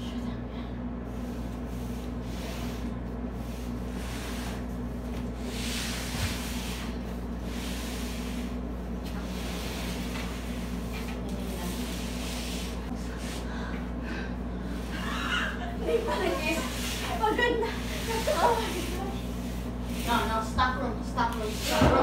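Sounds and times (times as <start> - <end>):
panels rubbing and scraping: 1.1 - 13.4, 14.6 - 22.0.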